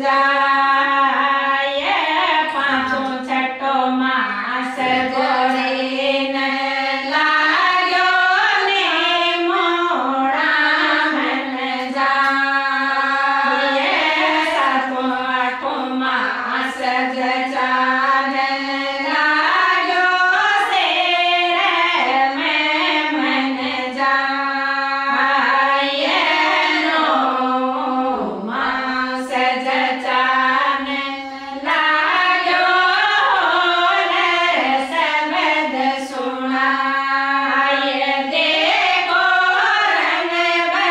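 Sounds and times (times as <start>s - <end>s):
women singing together: 0.0s - 40.9s.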